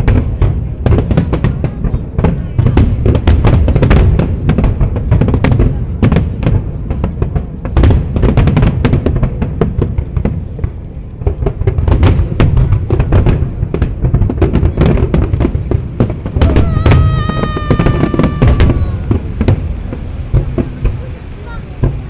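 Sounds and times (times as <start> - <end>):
fireworks bangs and booms: 0.0 - 22.0.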